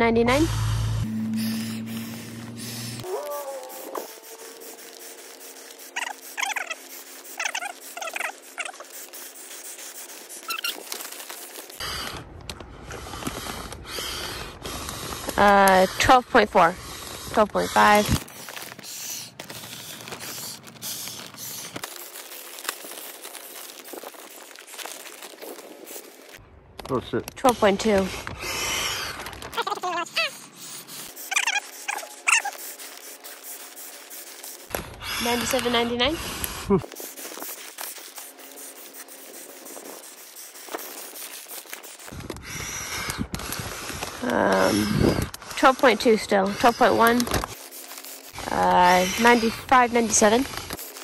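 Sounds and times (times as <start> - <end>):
man breathing into bag: 0.4 - 26.4, 27.6 - 51.0
plastic bag crinkling: 1.0 - 14.0, 17.1 - 51.0.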